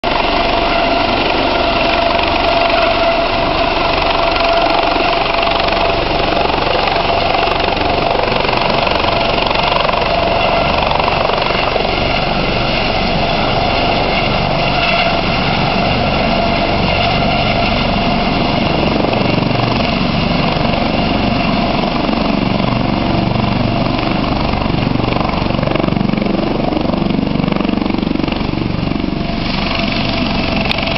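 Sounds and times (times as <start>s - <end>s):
helicopter rotor rumble: 0.0s - 30.9s
helicopter turbine whine: 0.0s - 30.9s.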